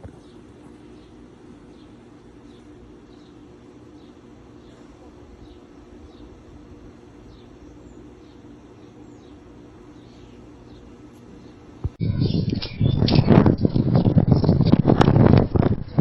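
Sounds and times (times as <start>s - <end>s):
steady low hum: 0.0s - 16.0s
small bird chirping: 0.1s - 6.5s, 7.2s - 14.7s.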